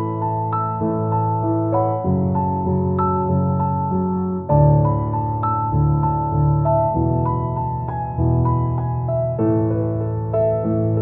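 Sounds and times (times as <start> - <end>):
soft piano notes: 0.0 - 11.0
steady bass line: 0.0 - 11.0.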